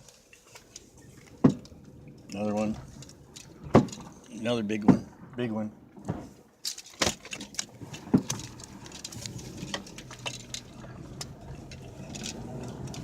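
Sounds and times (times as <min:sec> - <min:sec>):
engine and road hum: 0:00.0 - 0:13.0.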